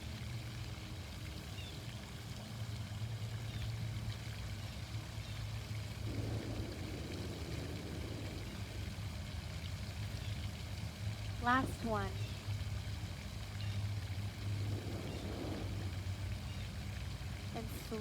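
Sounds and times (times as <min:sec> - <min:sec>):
low steady hum: 0:00.0 - 0:18.0
water fountain splashing: 0:00.0 - 0:18.0.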